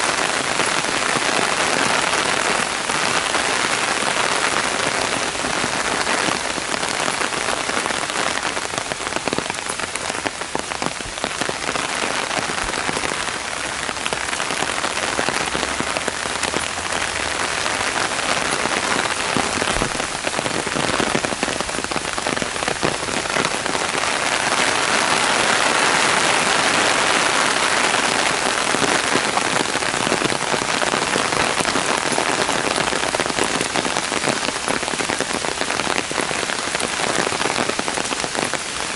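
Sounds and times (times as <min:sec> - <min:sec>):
heavy rain on pavement and trees: 0:00.0 - 0:38.9.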